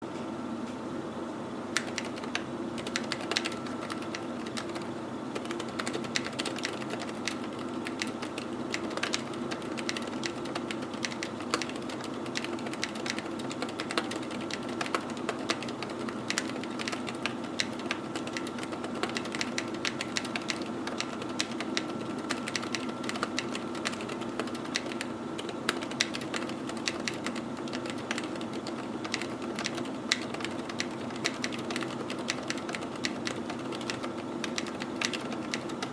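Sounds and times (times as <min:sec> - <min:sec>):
computer fan hum: 0:00.0 - 0:35.9
mechanical keyboard typing: 0:01.8 - 0:35.9.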